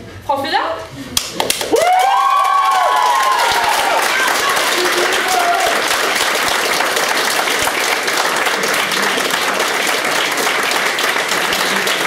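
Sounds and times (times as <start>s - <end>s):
crowd applauding: 1.4s - 12.0s.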